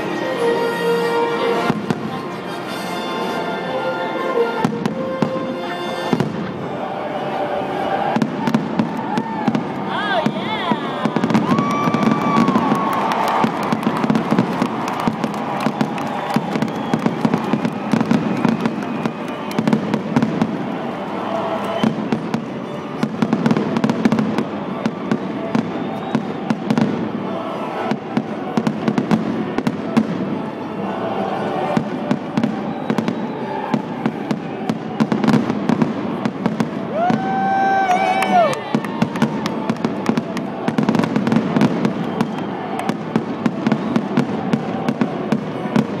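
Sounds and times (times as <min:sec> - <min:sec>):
fireworks bursting and crackling: 0:04.6 - 0:06.7, 0:07.8 - 0:30.6, 0:31.4 - 0:46.0.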